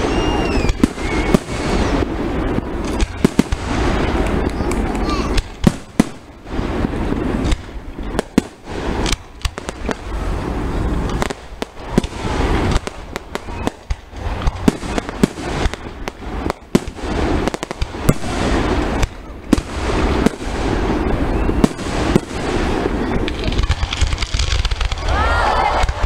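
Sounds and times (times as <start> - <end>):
fireworks bangs and pops: 0.0 - 26.0
rumbling haze: 0.0 - 26.0.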